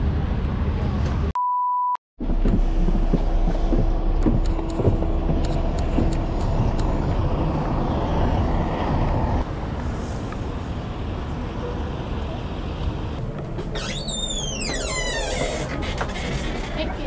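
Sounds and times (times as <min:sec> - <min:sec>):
bus engine idling: 0:02.2 - 0:17.0.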